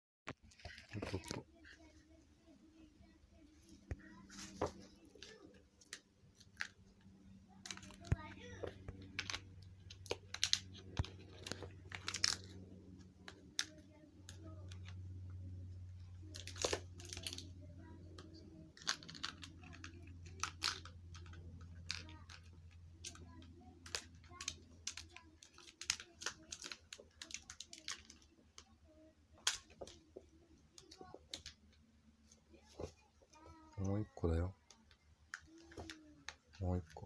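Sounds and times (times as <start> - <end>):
low steady hum: 0.4 - 37.0.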